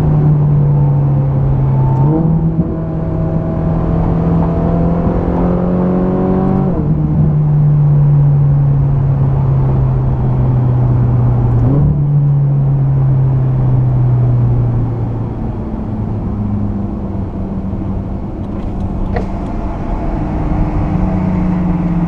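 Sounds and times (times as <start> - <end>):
car engine from inside cabin: 0.0 - 22.0.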